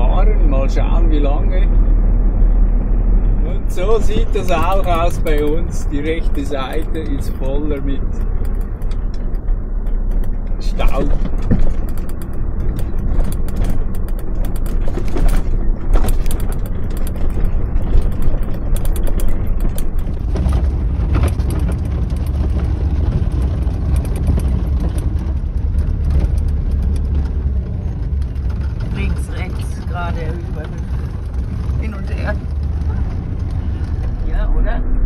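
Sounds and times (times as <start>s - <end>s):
truck engine and tyres rumbling: 0.0s - 35.0s
cab rattling and knocking: 2.8s - 34.2s.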